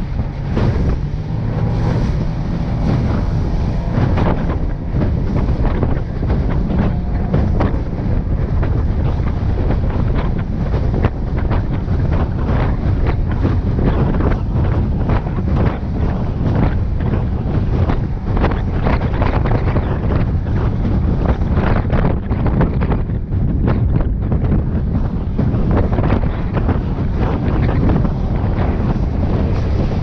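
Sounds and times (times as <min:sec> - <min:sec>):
boat motor drone: 0:00.0 - 0:30.0
hull slapping through water: 0:00.0 - 0:30.0
wind buffeting microphone: 0:00.0 - 0:30.0.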